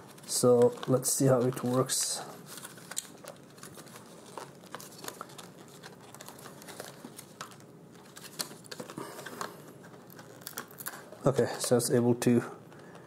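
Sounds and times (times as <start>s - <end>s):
plastic packaging clicks and crinkles: 0.0s - 13.0s.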